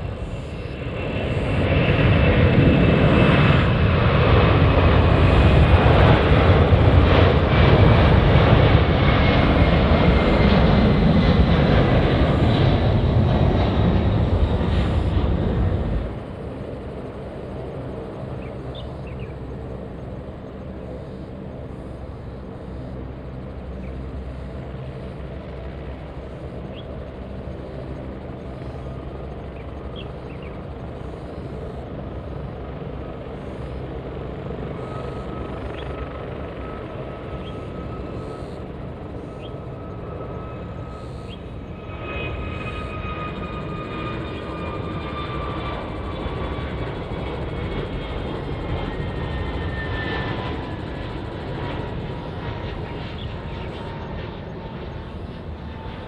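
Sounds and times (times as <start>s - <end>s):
jet engine rumble: 0.0s - 56.0s
jet fan whine: 0.0s - 56.0s.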